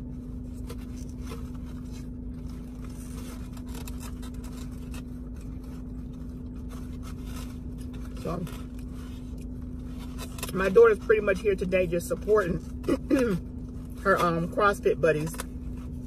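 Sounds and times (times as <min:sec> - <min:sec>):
low hum with rumble: 0:00.0 - 0:16.0.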